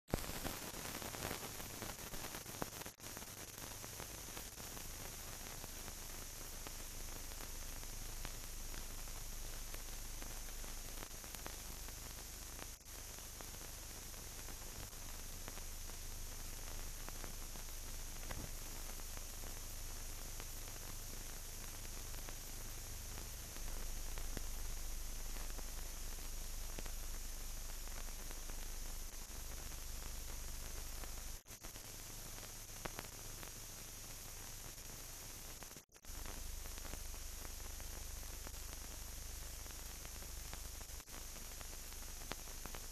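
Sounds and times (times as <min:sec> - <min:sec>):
film hiss: 0:00.1 - 0:42.9.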